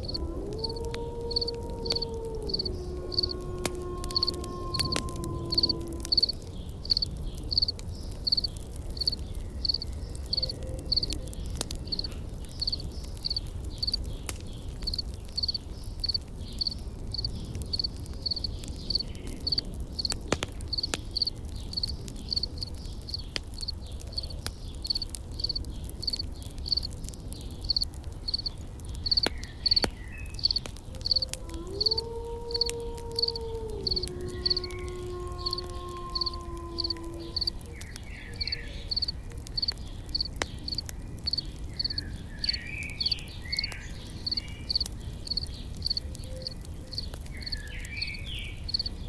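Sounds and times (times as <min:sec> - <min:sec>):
insect chirping: 0:00.0 - 0:03.4, 0:05.5 - 0:11.1, 0:11.9 - 0:14.0, 0:14.9 - 0:20.1, 0:20.7 - 0:23.7, 0:24.8 - 0:26.9, 0:27.6 - 0:34.8, 0:35.4 - 0:37.5, 0:38.4 - 0:48.1, 0:48.7 - 0:48.9
campfire crackling: 0:00.0 - 0:49.0.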